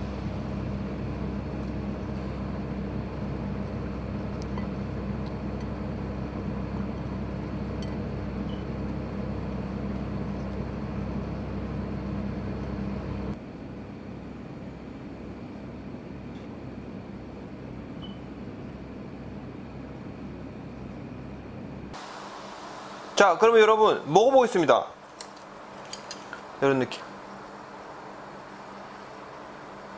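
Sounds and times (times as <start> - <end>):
mechanical hum: 0.0 - 29.9.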